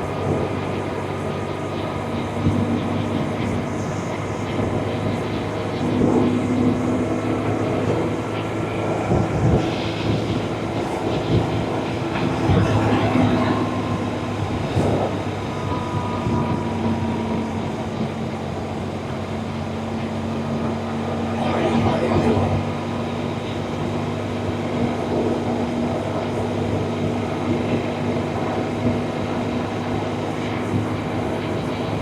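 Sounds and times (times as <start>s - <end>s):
rushing wind noise: 0.0s - 32.0s.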